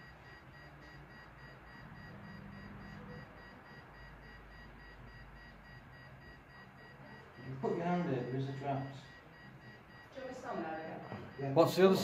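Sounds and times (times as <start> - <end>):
high-pitched electronic beeping: 0.0 - 12.0.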